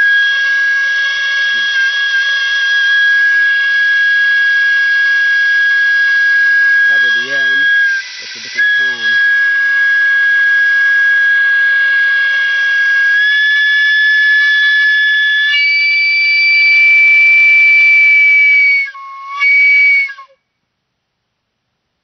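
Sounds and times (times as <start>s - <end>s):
steam whistle blowing: 0.0s - 20.5s.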